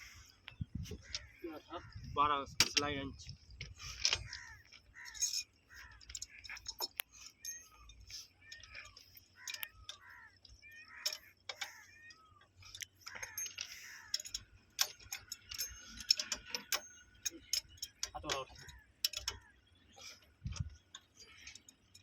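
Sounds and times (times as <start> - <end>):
metallic clicks of hand tools: 3.6 - 22.0.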